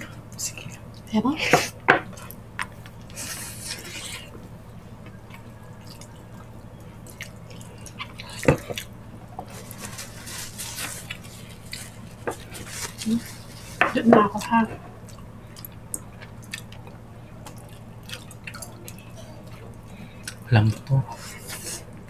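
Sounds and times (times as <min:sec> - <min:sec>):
wet chewing and smacking: 0:02.0 - 0:21.6.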